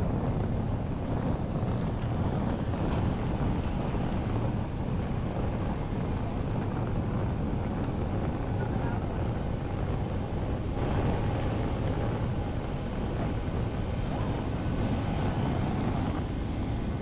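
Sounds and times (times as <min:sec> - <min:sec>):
jet aircraft roar: 0:00.0 - 0:17.0
thin high jet whine: 0:00.0 - 0:17.0.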